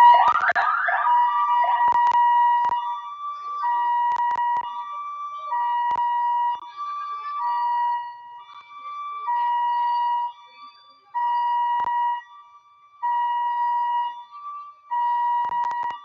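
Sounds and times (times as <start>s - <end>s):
electronic alarm beeping: 0.0s - 16.0s.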